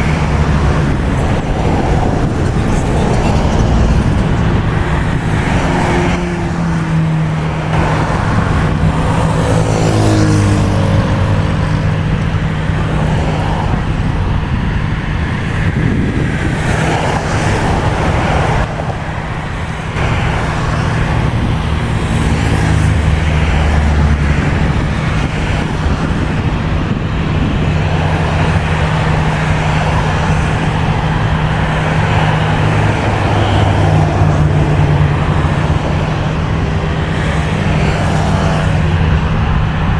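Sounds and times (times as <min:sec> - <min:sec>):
low engine hum: 0:00.0 - 0:39.9
passing vehicle engine: 0:00.0 - 0:39.9.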